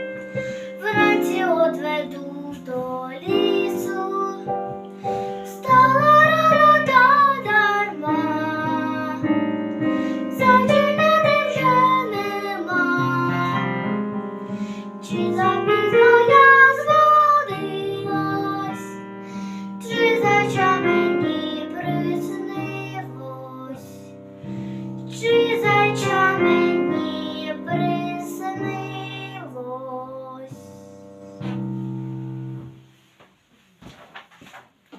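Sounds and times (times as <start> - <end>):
person singing: 0.0 - 24.1, 25.1 - 31.0.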